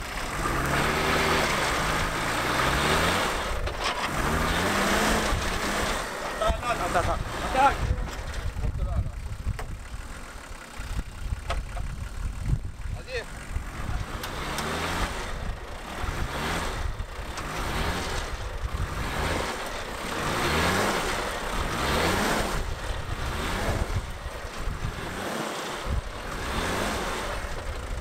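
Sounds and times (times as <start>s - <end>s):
engine revving hard: 0.0s - 10.6s, 12.0s - 28.0s.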